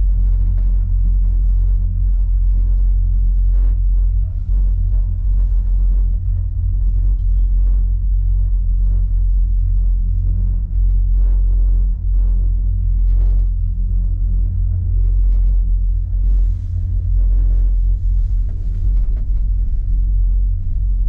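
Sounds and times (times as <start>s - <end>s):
cable car gondola rumble: 0.0s - 21.0s.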